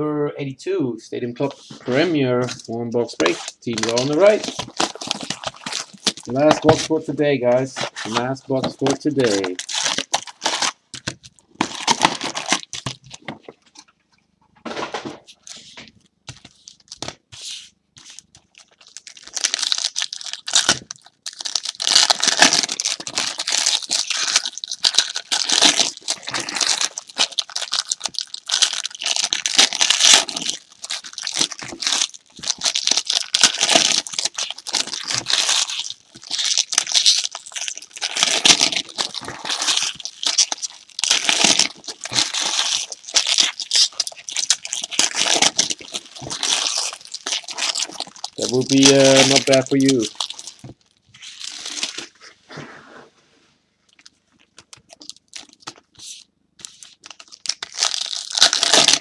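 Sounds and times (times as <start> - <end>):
wrappers tearing and crinkling: 2.5 - 13.3, 18.0 - 52.2, 54.0 - 59.0.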